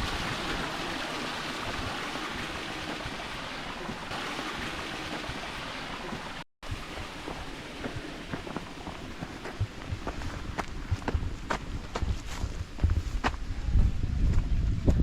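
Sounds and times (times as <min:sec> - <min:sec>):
stream water rushing: 0:00.0 - 0:12.4.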